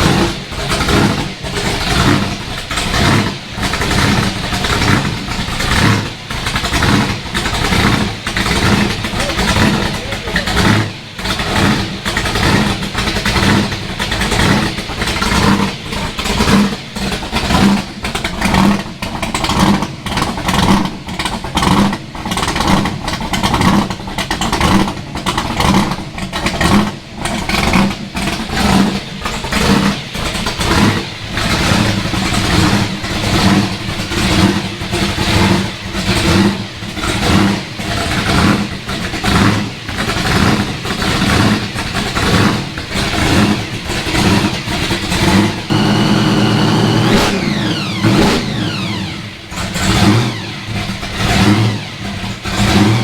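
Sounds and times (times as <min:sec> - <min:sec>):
car engine revving through exhaust: 0:00.0 - 0:53.0.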